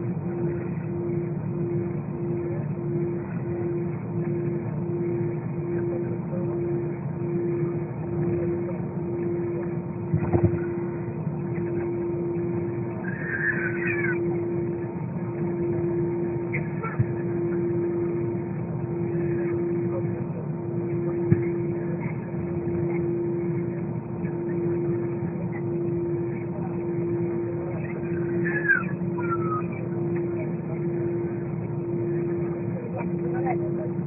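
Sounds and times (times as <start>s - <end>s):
airplane cabin low rumble: 0.0s - 34.0s
pulsing hum: 0.0s - 34.0s
faint voices: 0.1s - 34.0s.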